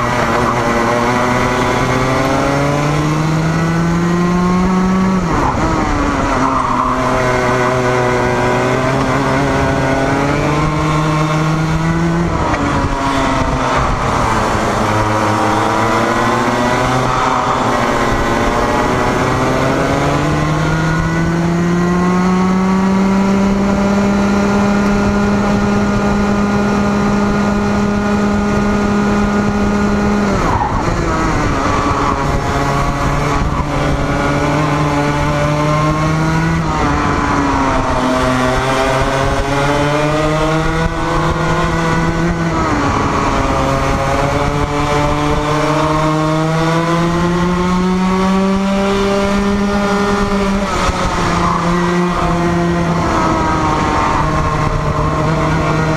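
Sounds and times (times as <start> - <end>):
go-kart engine revving: 0.0 - 55.9.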